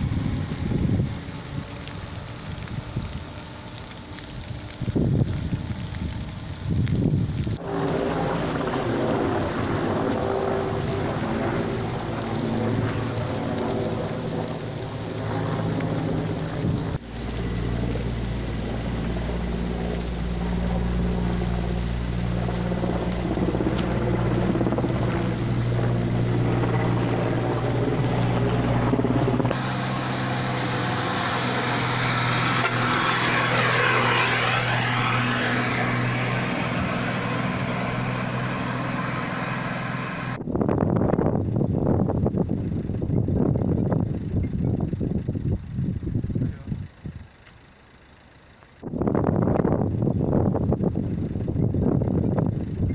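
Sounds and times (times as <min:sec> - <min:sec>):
vehicle engines running: 0:00.0 - 0:40.4, 0:41.5 - 0:52.9.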